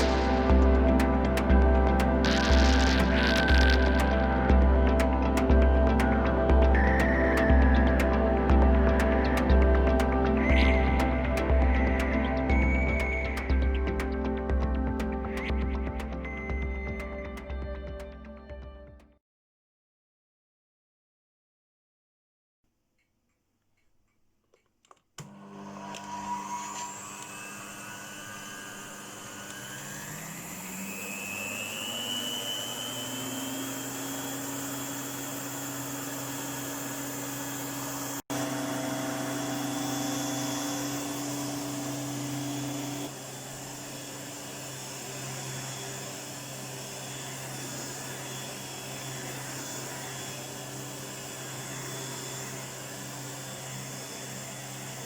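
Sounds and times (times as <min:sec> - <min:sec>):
vacuum cleaner motor whining: 0:00.0 - 0:17.5, 0:25.2 - 0:55.0.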